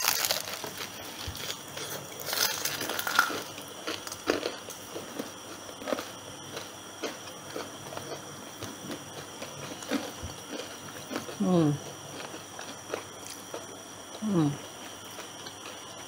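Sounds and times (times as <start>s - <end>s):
chewing: 0.0s - 15.9s
crunching fried chicken: 0.0s - 16.0s.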